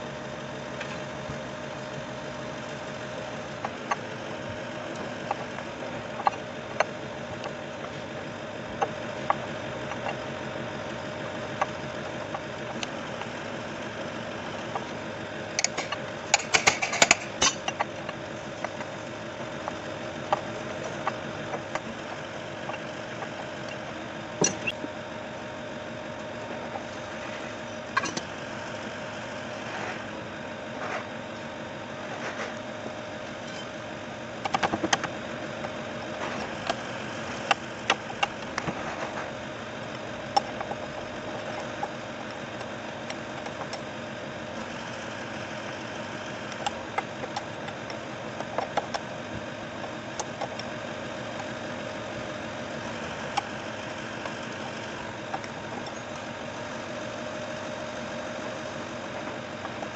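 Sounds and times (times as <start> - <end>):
steady engine-like hum: 0.0 - 59.9.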